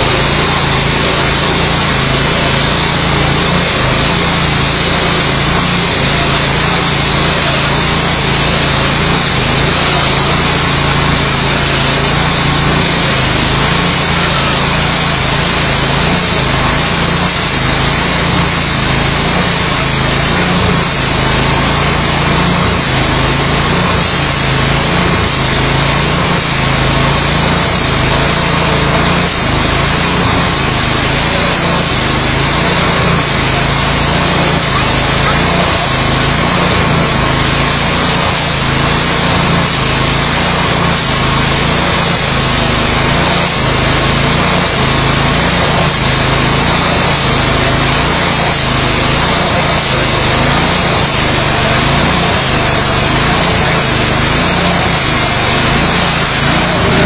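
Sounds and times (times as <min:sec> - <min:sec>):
rail saw grinding steel: 0:00.0 - 0:57.0.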